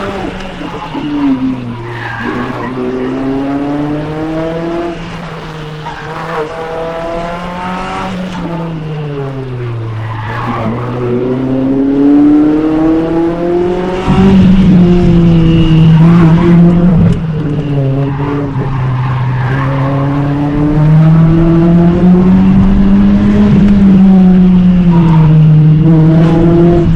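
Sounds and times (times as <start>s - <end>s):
car engine driven hard: 0.0s - 26.9s.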